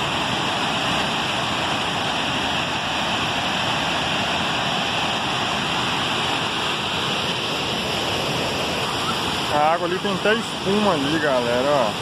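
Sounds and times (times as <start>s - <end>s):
waterfall and rapids rushing: 0.0s - 12.0s.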